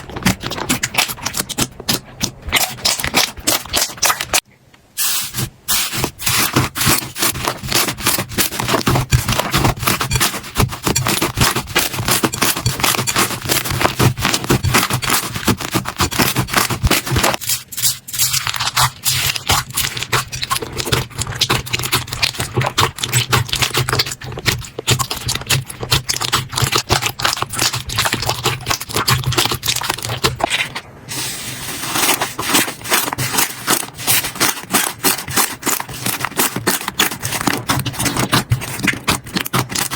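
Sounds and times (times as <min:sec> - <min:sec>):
sticky slime popping and crackling: 0:00.0 - 0:04.4, 0:05.4 - 0:30.8, 0:32.0 - 0:39.9.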